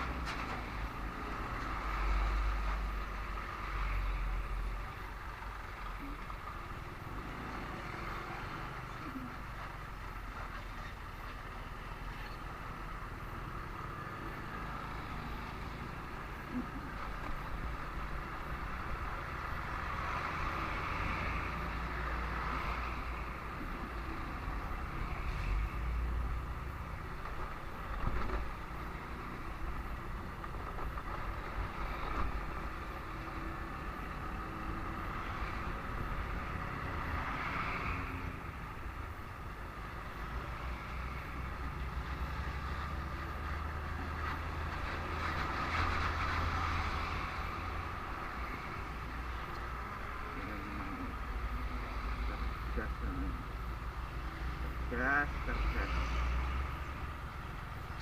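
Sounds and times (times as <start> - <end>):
motorcycle engine and road noise: 0.0 - 58.0.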